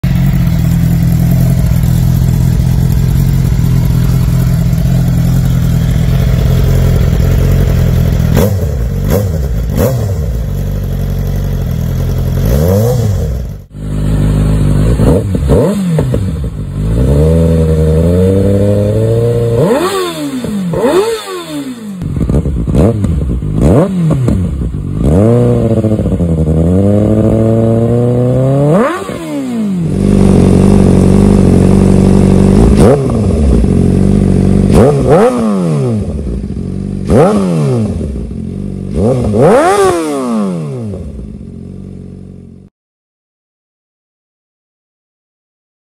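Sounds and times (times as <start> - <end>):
motorcycle engine revving: 0.0 - 42.7.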